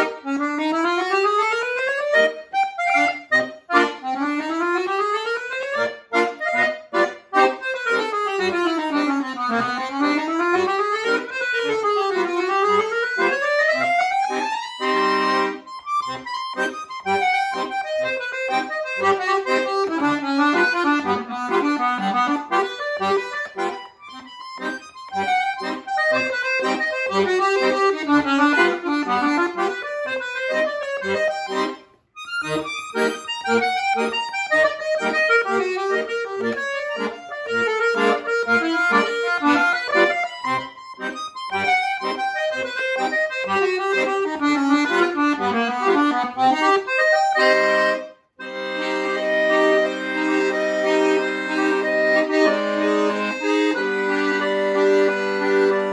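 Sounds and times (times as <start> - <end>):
button accordion playing: 0.0 - 55.9.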